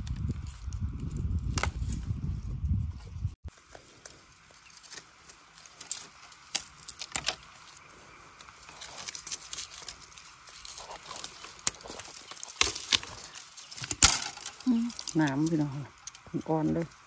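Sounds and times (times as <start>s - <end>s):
dry bamboo and leaves crackling: 0.0s - 2.2s, 3.4s - 17.0s.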